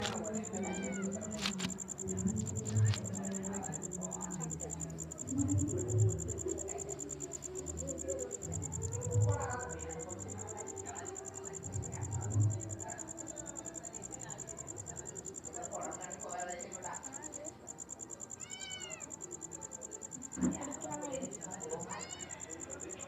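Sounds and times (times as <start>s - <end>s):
high-pitched insect trill: 0.0s - 23.0s.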